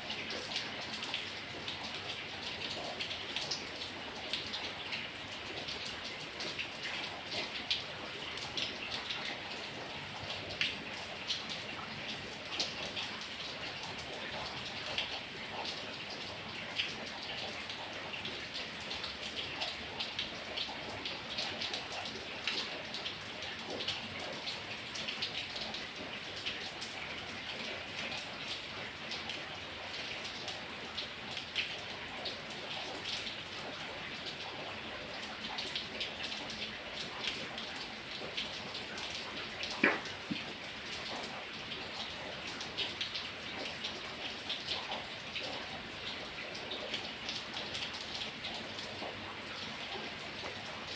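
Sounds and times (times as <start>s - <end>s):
raindrops splattering: 0.1s - 50.9s.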